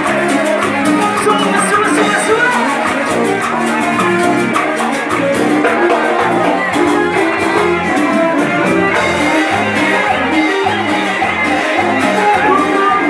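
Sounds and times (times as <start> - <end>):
guitar melody: 0.0 - 13.0
live latin dance band: 0.0 - 13.0
percussion beat: 0.0 - 13.0.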